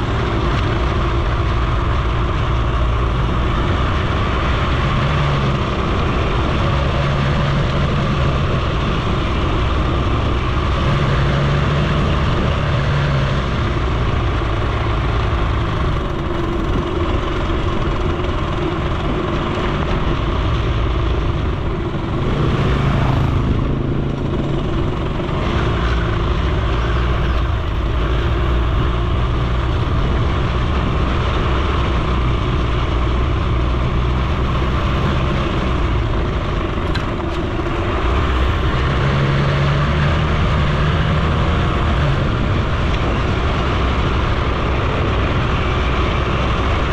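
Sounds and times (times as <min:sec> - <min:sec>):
road noise: 0:00.0 - 0:46.9
two-stroke moped engine running: 0:00.0 - 0:46.9.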